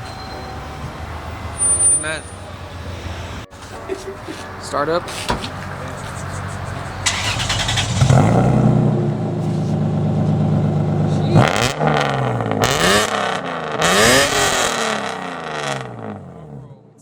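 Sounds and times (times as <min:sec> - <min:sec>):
car engine starting and revving: 0:02.5 - 0:16.8.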